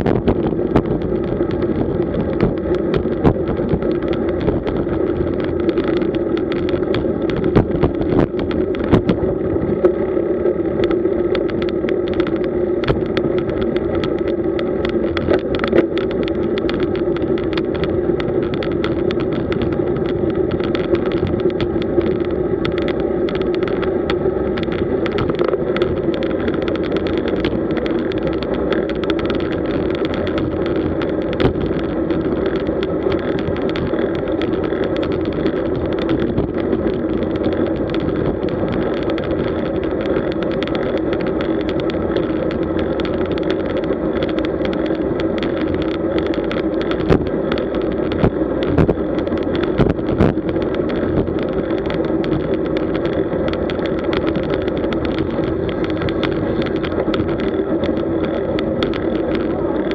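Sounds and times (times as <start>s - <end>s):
bike knocking on bumps: 0.0s - 59.9s
tyre road noise: 0.0s - 59.9s.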